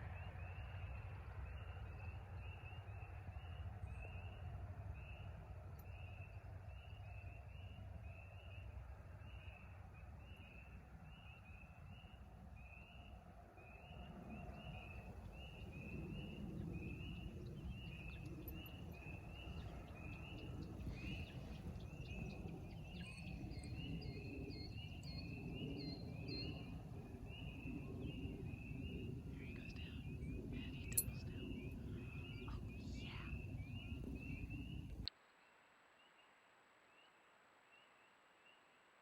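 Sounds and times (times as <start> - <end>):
low background rumble: 0.0 - 35.1.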